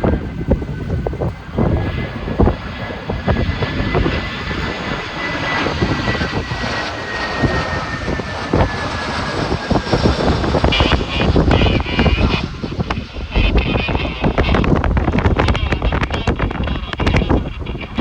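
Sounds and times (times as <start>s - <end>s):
jet engine whine: 0.0s - 18.0s
wind buffeting microphone: 0.0s - 18.0s.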